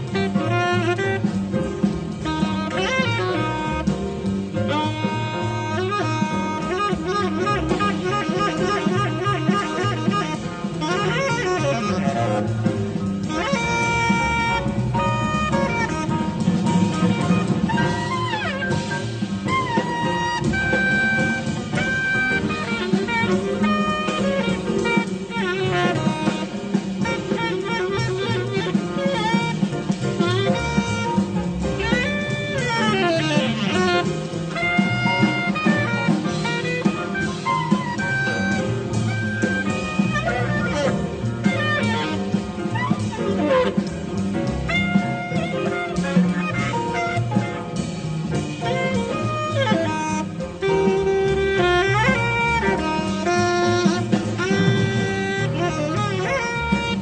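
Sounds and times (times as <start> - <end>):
double bass: 0.0 - 57.0
drums: 0.0 - 57.0
piano: 0.0 - 57.0
tenor saxophone melody: 0.0 - 57.0.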